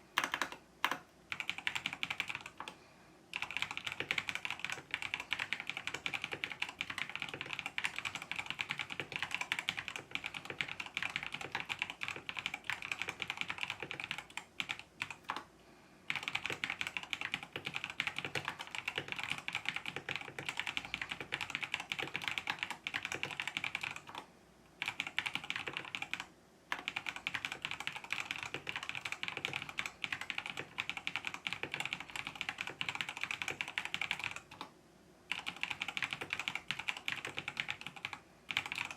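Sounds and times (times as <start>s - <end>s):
mechanical keyboard typing: 0.2s - 15.5s, 16.1s - 34.7s, 35.3s - 38.9s.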